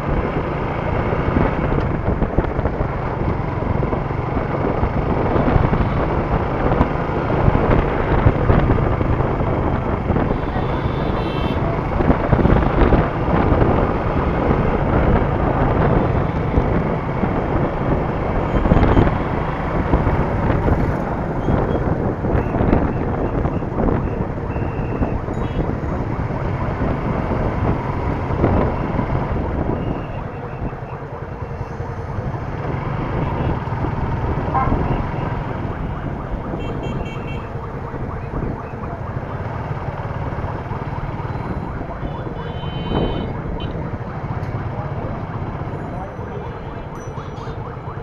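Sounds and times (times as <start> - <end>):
road noise: 0.0 - 48.0
wind rush on microphone: 0.0 - 48.0.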